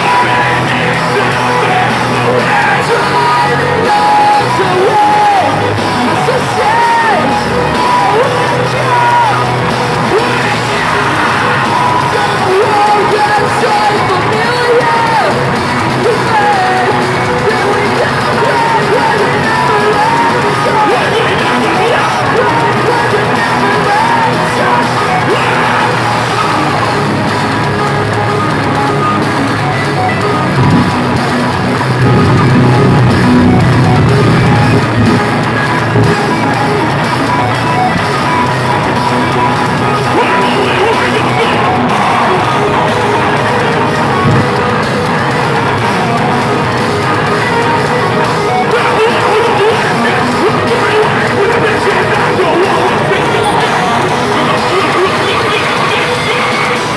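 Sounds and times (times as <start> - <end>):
drums: 0.0 - 56.9
electric guitars: 0.0 - 56.9
metal band playing live: 0.0 - 56.9
yelled and sung vocals: 0.0 - 56.9.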